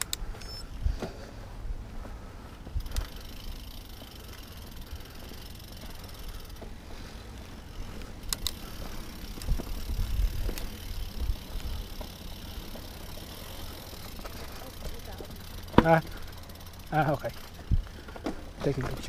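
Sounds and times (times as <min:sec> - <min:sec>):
bike clicking and rattling: 0:00.0 - 0:19.0
tyres rumbling on dirt: 0:01.0 - 0:19.0.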